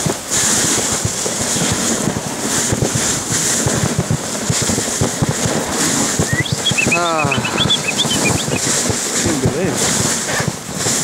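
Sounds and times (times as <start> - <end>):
wind buffeting microphone: 0.0 - 11.0
sled hissing over snow: 0.1 - 11.0.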